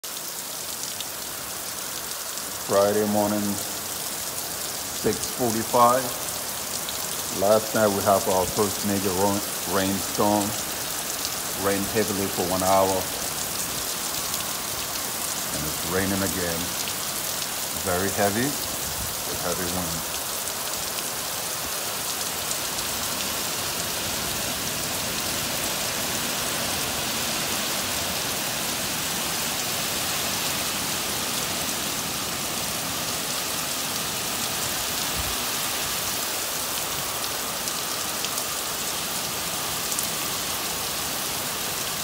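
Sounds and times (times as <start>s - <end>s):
heavy rain on concrete: 0.0s - 42.0s.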